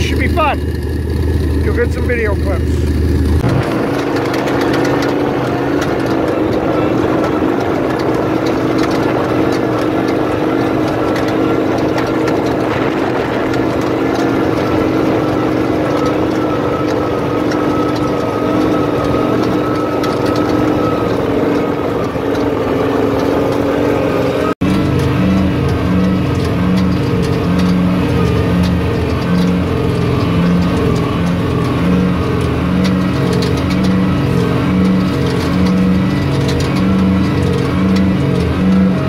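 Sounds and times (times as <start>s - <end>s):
vehicle engine running steadily: 0.0s - 39.0s.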